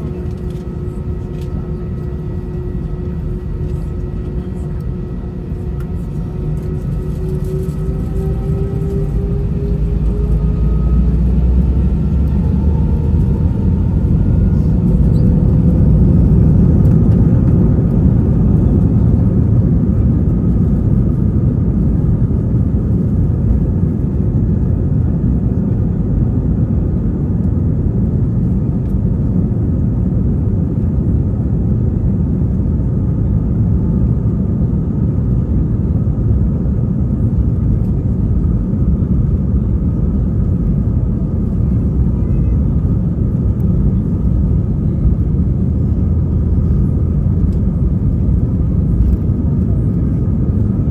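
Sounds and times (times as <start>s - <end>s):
jet engines roaring in cabin: 0.0s - 50.9s.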